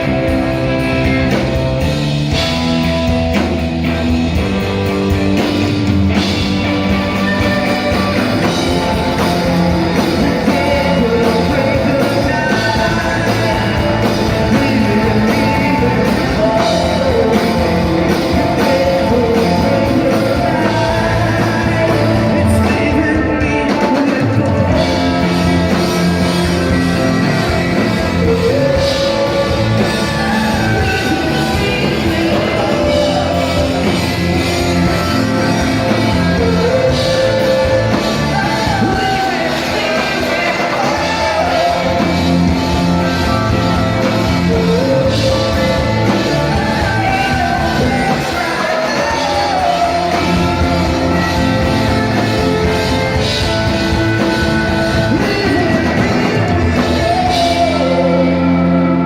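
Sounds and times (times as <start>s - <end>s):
drums: 0.0s - 59.0s
electric guitars: 0.0s - 59.0s
person singing: 0.0s - 59.0s.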